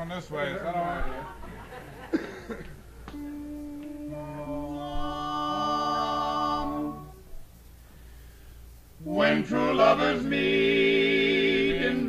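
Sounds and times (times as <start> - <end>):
men's voices humming a chord: 0.0 - 12.0.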